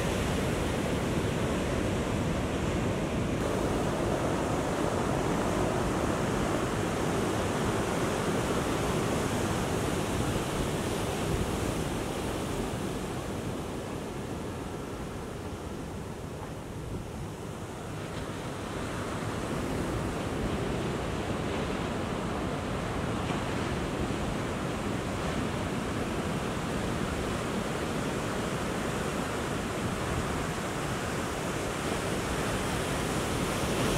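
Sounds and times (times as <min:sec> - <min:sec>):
large ocean waves breaking: 0:00.0 - 0:33.9.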